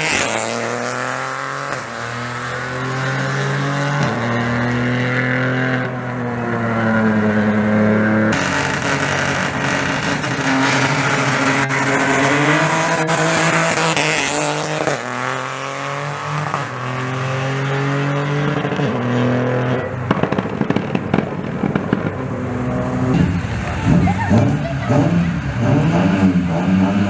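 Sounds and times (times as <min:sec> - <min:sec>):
engine crackling: 0:00.0 - 0:27.0
rally car engine accelerating: 0:00.0 - 0:27.0.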